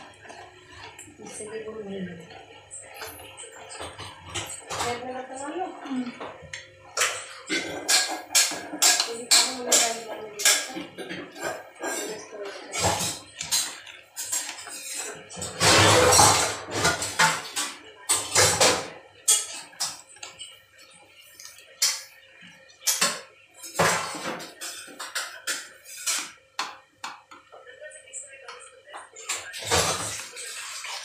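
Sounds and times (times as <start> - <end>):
spoon stirring in metal pot: 0.0 - 31.0.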